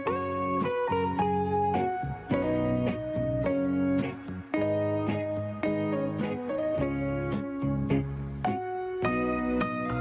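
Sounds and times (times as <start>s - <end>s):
plucked guitar notes: 0.0s - 10.0s.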